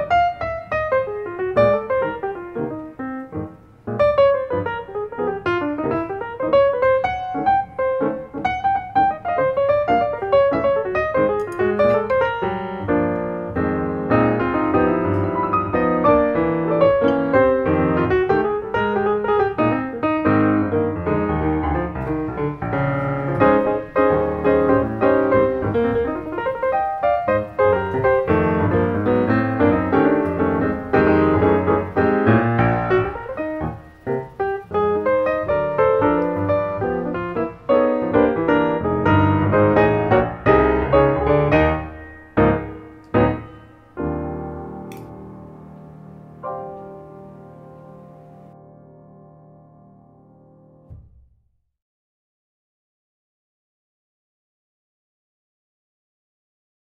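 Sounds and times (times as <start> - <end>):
piano music: 0.0 - 51.1.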